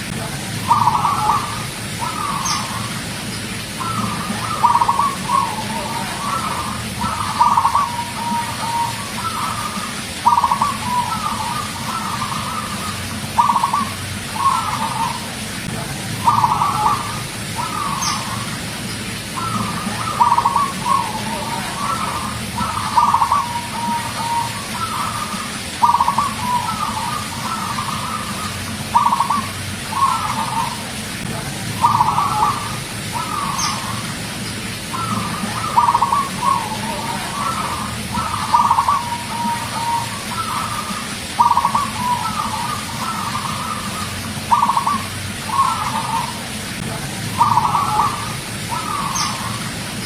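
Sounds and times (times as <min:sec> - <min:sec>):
dove cooing: 0:00.0 - 0:03.1, 0:03.7 - 0:18.6, 0:19.3 - 0:31.0, 0:31.6 - 0:50.0
steady low hum: 0:00.0 - 0:50.0.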